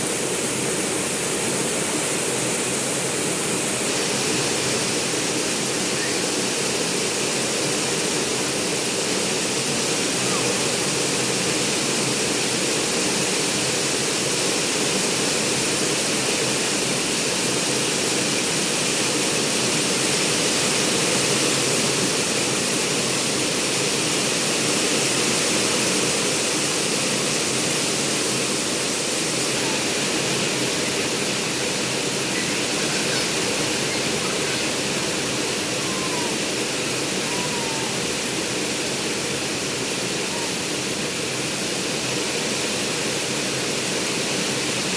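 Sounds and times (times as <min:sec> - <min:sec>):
rain pouring: 0:00.0 - 0:44.9.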